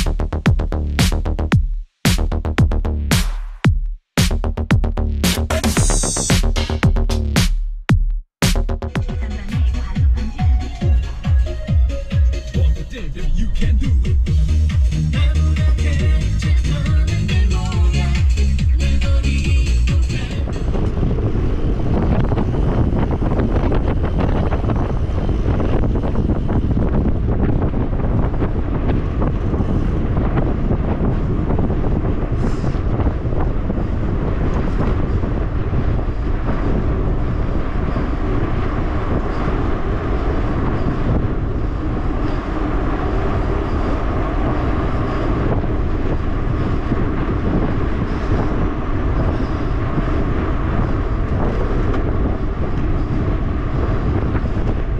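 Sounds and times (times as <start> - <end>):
tyre and road noise: 8.4 - 54.9
wind buffeting microphone: 9.2 - 54.9.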